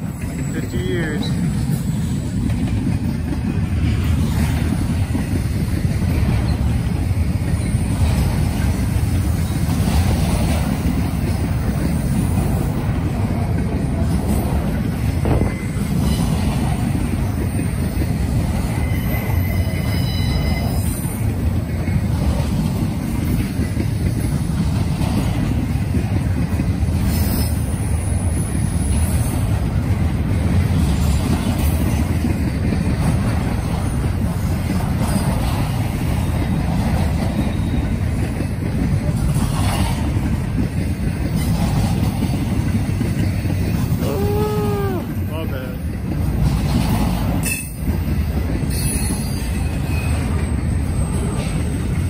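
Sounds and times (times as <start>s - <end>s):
freight train rumbling past: 0.0s - 52.0s
wheels squealing on rail: 0.0s - 52.0s.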